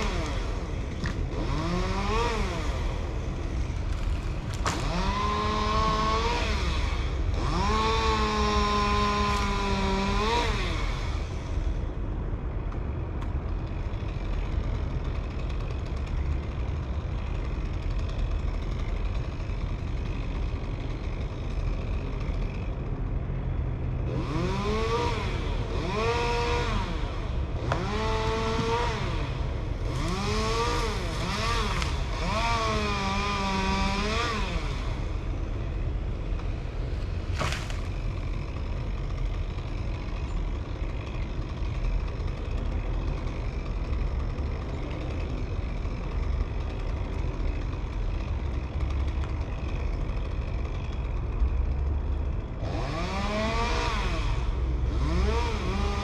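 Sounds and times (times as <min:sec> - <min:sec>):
chainsaw engine revving: 0:00.0 - 0:11.8, 0:13.6 - 0:22.9, 0:23.9 - 0:56.0.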